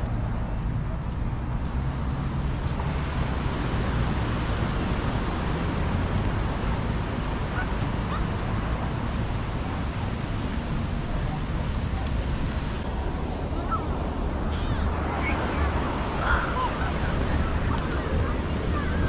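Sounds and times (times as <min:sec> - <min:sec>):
wind on microphone: 0:00.0 - 0:19.0
ocean surf washing onto beach: 0:01.1 - 0:19.0.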